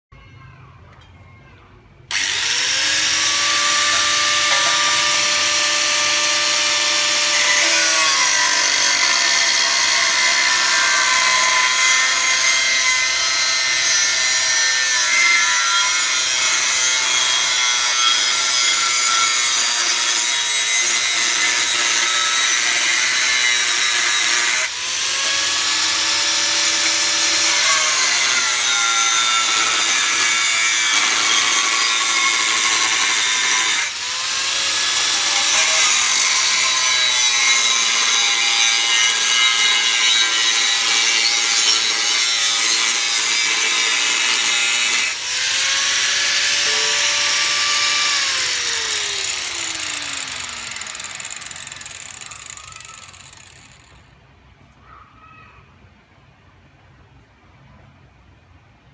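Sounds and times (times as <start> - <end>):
angle grinder cutting metal: 2.1 - 54.0.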